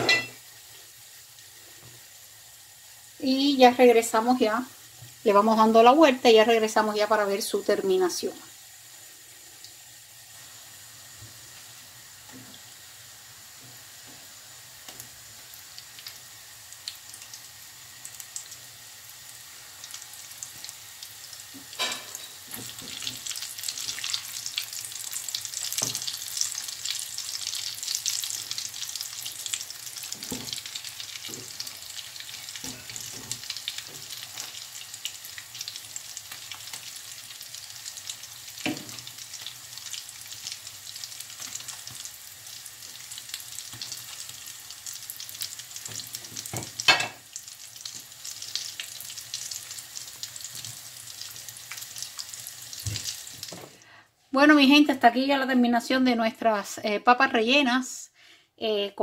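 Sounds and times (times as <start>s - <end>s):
deep-frying crackling sizzle: 0.0s - 54.1s.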